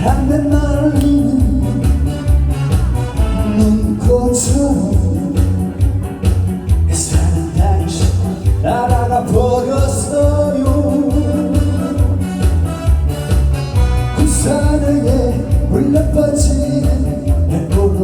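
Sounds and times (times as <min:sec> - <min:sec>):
person singing: 0:00.0 - 0:06.0, 0:06.9 - 0:12.6, 0:14.1 - 0:18.0
trot song with bass beat: 0:00.0 - 0:18.0.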